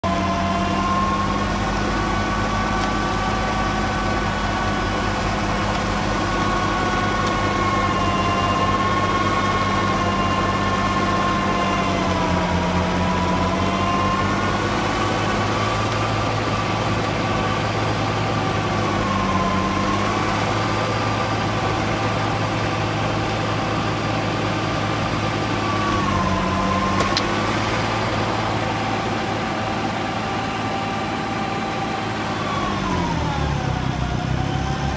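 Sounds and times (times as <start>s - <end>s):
tractor and snow blower droning: 0.0s - 34.9s.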